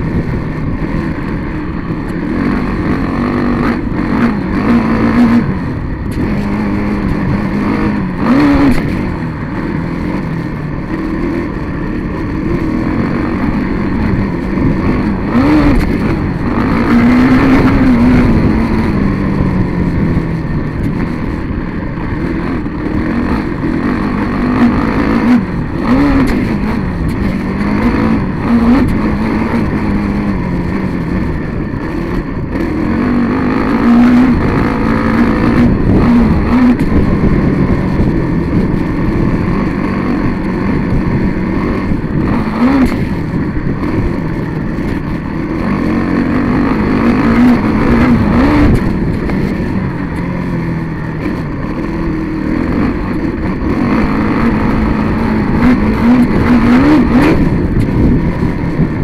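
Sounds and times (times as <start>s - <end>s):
small vehicle engine revving: 0.0s - 59.0s
wind noise: 0.0s - 59.0s.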